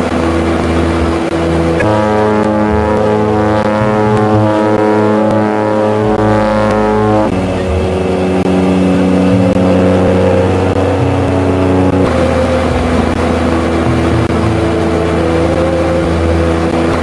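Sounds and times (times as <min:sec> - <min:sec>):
propeller engines droning in cabin: 0:00.0 - 0:17.0.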